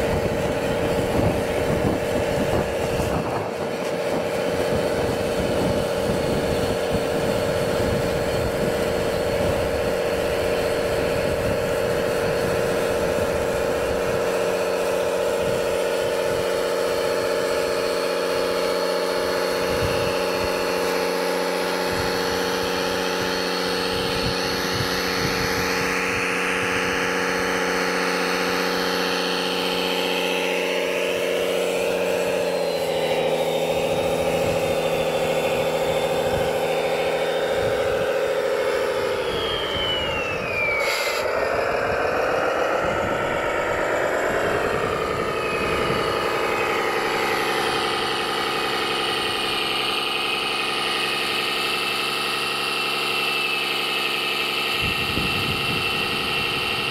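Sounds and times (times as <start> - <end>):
higher whine: 0.0 - 56.9
model machine engine drone: 0.0 - 56.9.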